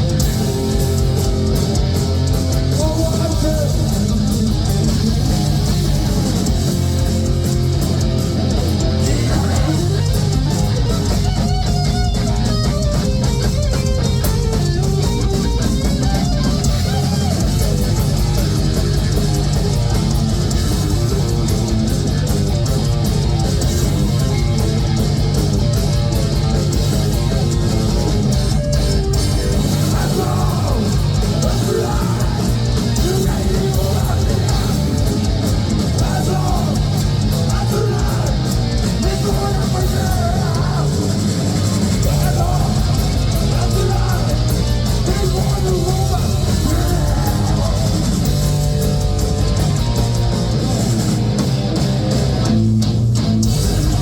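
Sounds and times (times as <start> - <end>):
heavy metal band playing live: 0.0 - 54.0.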